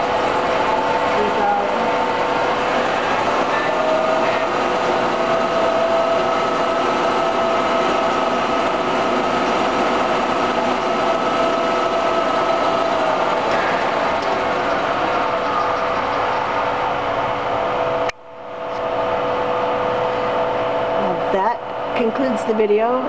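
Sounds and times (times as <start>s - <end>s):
lathe humming and whining: 0.0s - 23.0s.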